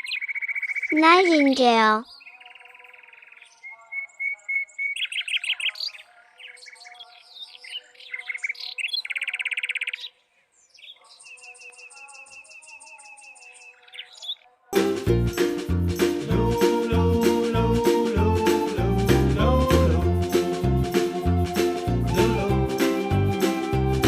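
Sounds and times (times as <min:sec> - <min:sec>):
nightingale singing: 0:00.0 - 0:24.0.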